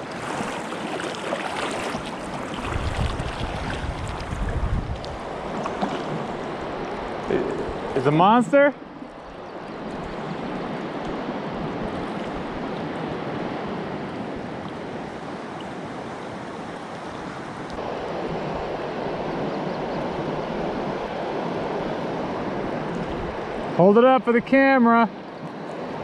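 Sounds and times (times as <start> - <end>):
mountain river rushing: 0.0 - 26.0.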